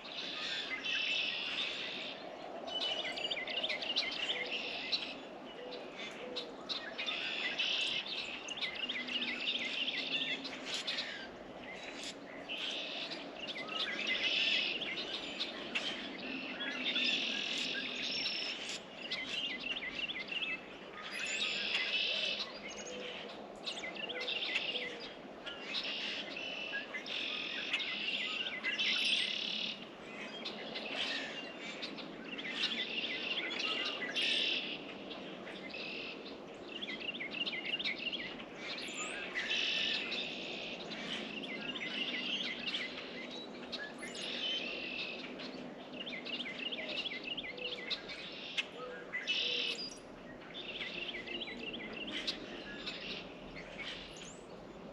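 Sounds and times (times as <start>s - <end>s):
small songbirds singing: 0.0s - 54.9s.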